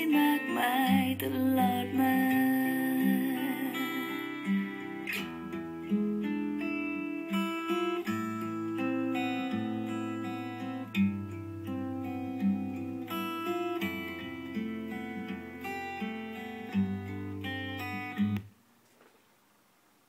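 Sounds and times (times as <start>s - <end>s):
strummed acoustic guitar: 0.0s - 18.5s.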